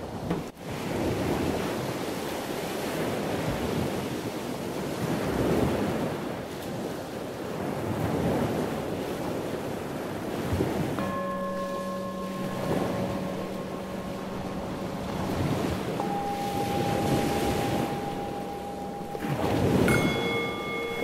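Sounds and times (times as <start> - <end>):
waves breaking: 0.1 - 21.0.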